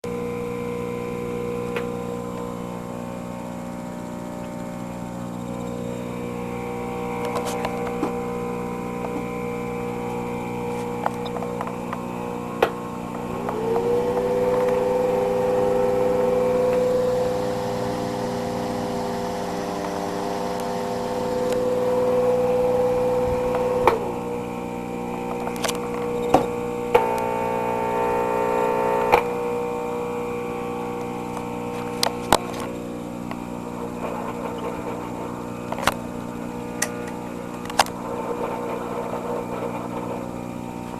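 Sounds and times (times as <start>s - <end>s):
electronic buzz of stacked tones: 0.0s - 40.9s.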